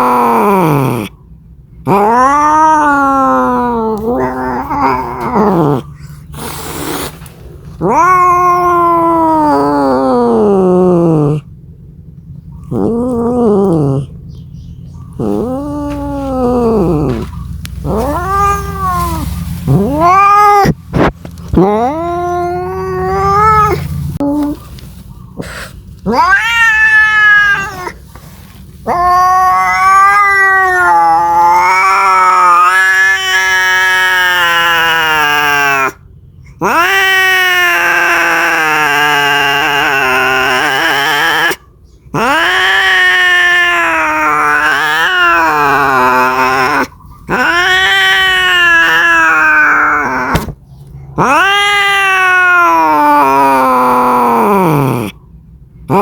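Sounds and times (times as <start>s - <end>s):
cat yowling: 1.9s - 11.5s, 12.6s - 14.2s, 15.1s - 24.7s, 25.4s - 28.0s, 28.8s - 36.0s, 36.6s - 55.2s.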